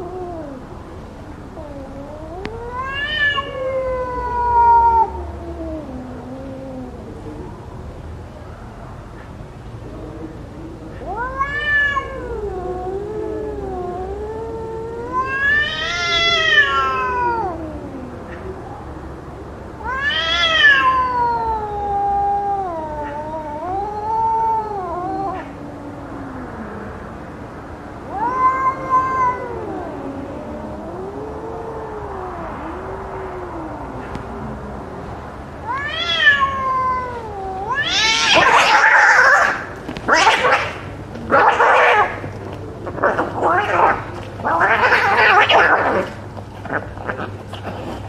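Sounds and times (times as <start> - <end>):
cats yowling in a fight: 0.0 - 7.7, 10.2 - 19.0, 19.7 - 27.2, 27.9 - 48.0.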